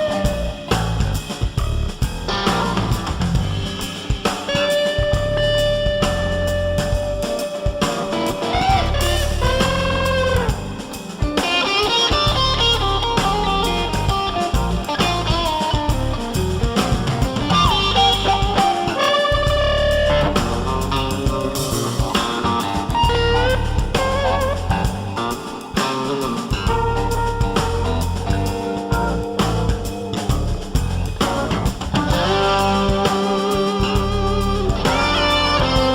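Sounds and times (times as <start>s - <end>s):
drum and bass beat: 0.0s - 35.9s
electric guitar melody: 0.0s - 35.9s.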